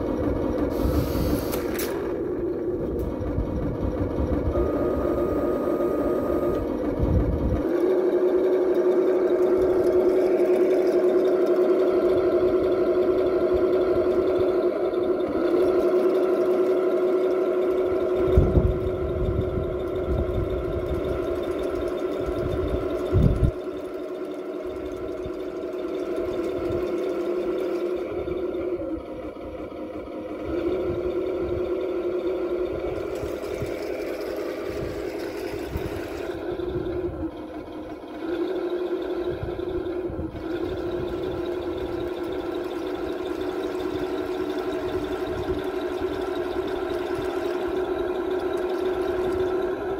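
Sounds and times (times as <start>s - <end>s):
drive motors whining: 0.0s - 49.9s
toy tank engine drone: 0.0s - 49.9s.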